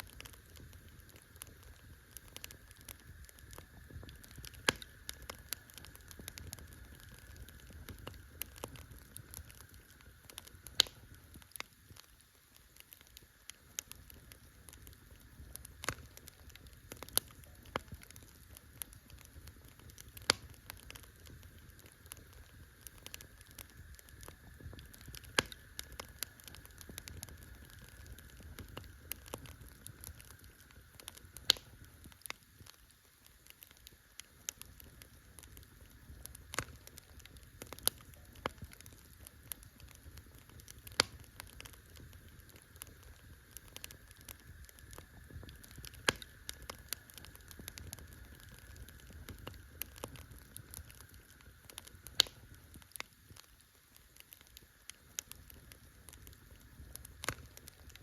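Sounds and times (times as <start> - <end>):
campfire crackling and popping: 0.0 - 58.0
low rumble of burning fire: 0.0 - 58.0.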